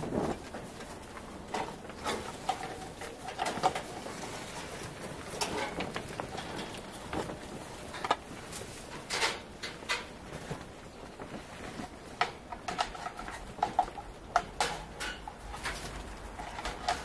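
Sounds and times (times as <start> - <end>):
plastic dishes clattering on cages: 0.0 - 17.0.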